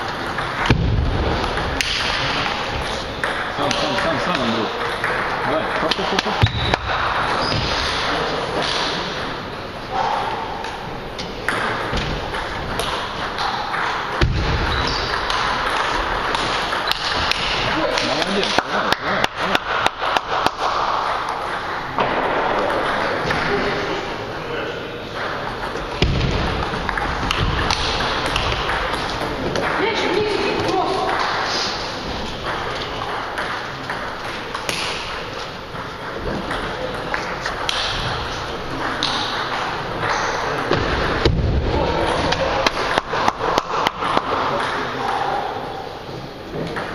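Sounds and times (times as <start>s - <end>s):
table tennis balls clicking: 0.0s - 9.5s, 10.7s - 23.4s, 25.1s - 31.5s, 32.3s - 41.3s, 42.0s - 45.2s, 46.5s - 46.9s
steady background noise: 0.0s - 46.9s.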